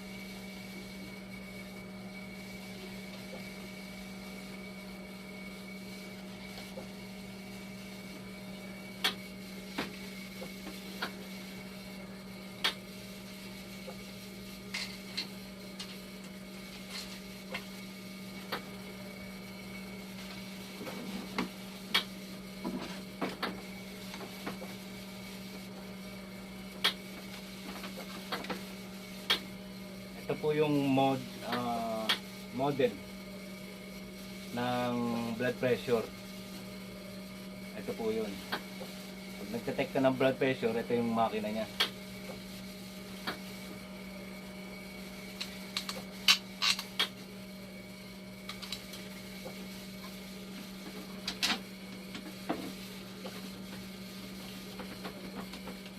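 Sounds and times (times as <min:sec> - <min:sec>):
machine humming with high whine: 0:00.0 - 0:55.9.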